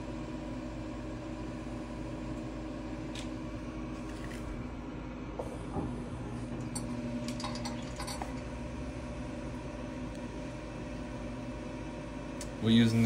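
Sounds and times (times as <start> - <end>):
stove motor hum: 0.0 - 13.0.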